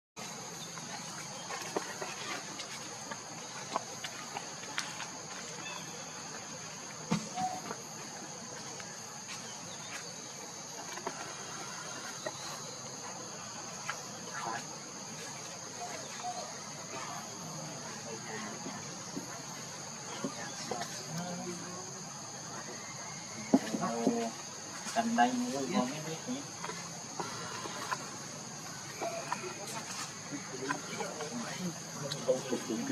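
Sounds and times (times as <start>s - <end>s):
insects droning: 0.2s - 32.9s.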